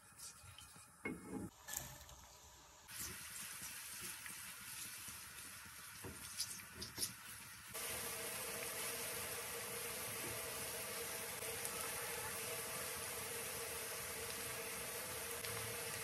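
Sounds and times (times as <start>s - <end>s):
onions sizzling in oil: 1.6s - 16.0s.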